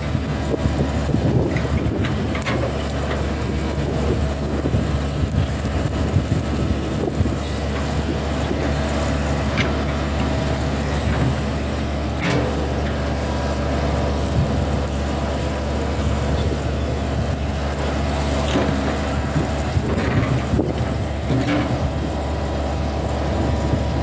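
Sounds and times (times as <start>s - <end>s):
diesel engine low hum: 0.0s - 24.0s.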